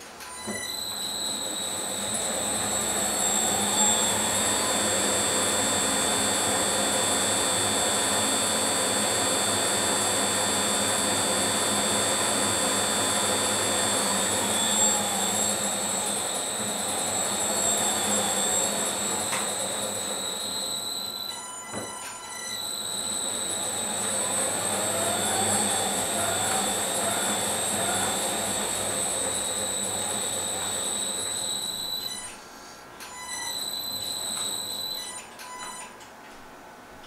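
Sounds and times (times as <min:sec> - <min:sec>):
lathe running with high whine: 0:00.5 - 0:32.3, 0:33.4 - 0:35.0.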